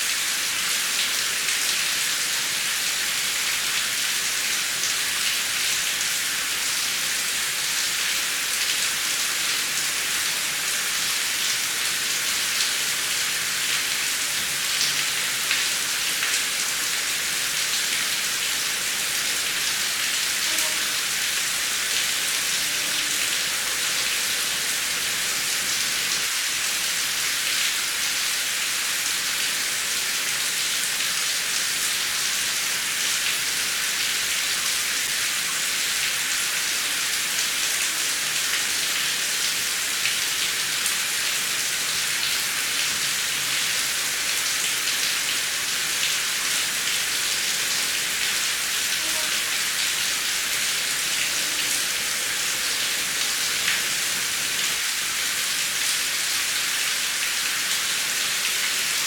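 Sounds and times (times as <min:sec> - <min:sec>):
heavy rain hissing: 0:04.6 - 0:27.4, 0:32.4 - 0:59.0.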